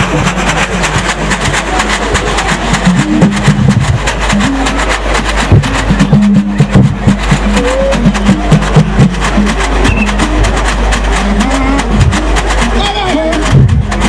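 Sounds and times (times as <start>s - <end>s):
drum strokes: 0.0s - 14.0s
low melody: 0.0s - 14.0s
shin rattles shaking: 0.0s - 14.0s.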